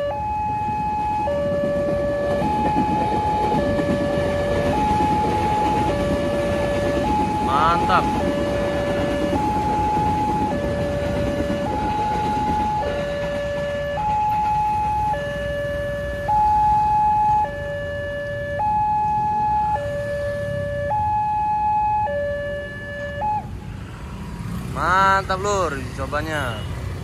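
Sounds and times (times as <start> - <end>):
two-tone crossing warning siren: 0.0 - 23.6
low traffic rumble: 0.0 - 27.0.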